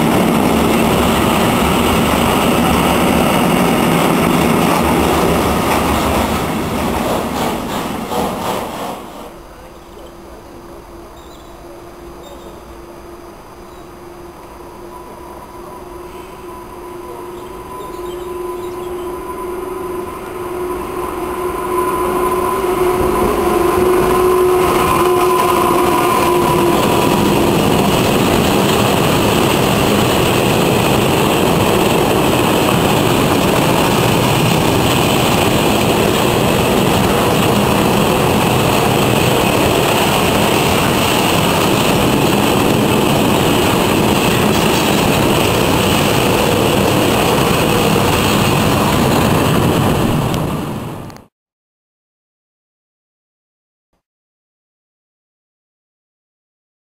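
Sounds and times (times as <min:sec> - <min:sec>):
freight train wheels on rail: 0:00.0 - 0:51.3.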